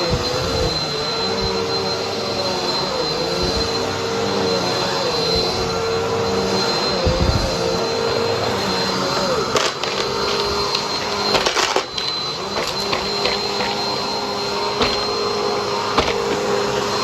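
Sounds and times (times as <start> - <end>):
vacuum cleaner whining: 0.0 - 17.0.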